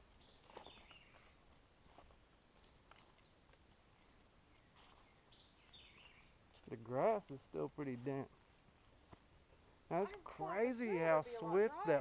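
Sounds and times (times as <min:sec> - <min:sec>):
soft high bird chirps: 0:00.0 - 0:07.4, 0:08.1 - 0:12.0.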